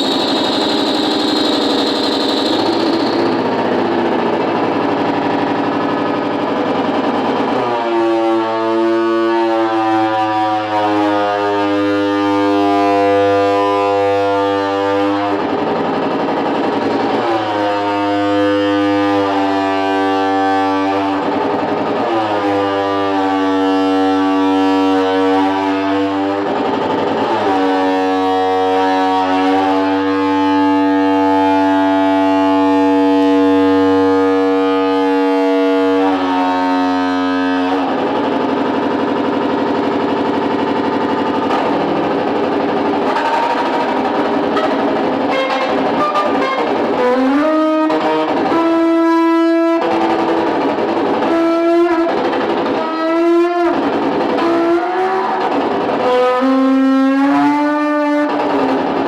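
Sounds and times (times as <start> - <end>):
electric guitar feedback: 0.0 - 52.2.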